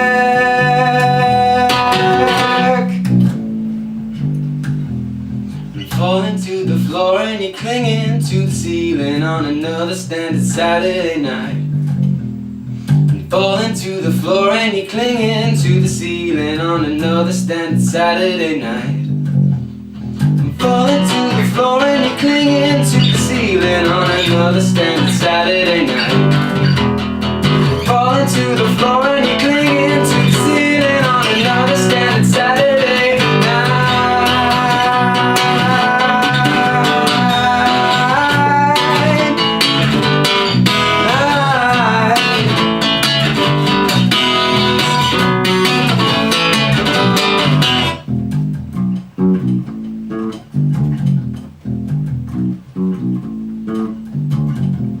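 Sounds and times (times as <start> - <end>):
lead guitar bending pitch: 0.0 - 6.9, 7.8 - 14.4, 15.0 - 55.0
band playing with guitars: 0.0 - 55.0
stop-start bass line: 0.0 - 55.0.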